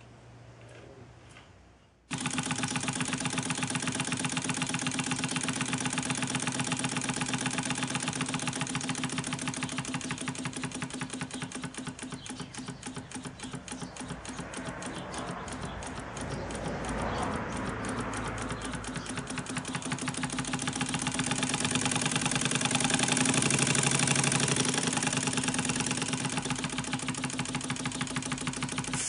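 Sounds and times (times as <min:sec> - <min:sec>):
model steam engine chuffing: 0:02.1 - 0:29.0.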